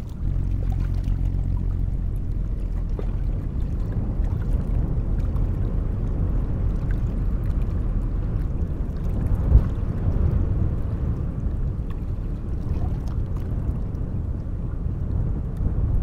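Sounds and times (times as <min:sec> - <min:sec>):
ship engine rumble: 0:00.0 - 0:16.0
water at ship bow: 0:00.0 - 0:16.0.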